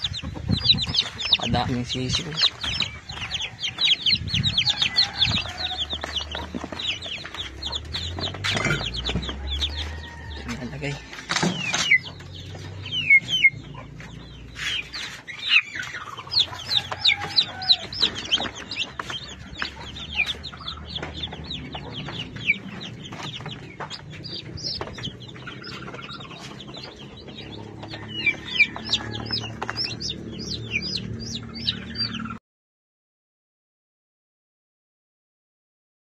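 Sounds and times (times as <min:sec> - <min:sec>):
chicks peeping: 0:00.0 - 0:32.4.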